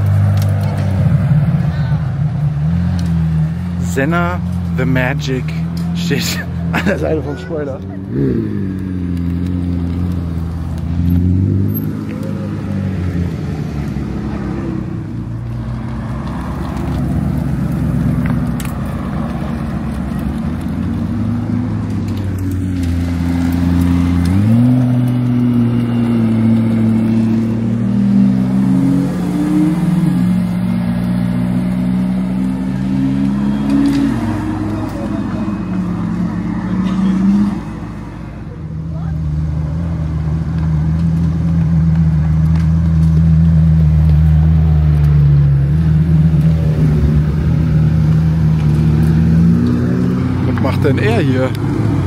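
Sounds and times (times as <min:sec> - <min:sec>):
car engines at low revs: 0:00.0 - 0:52.0.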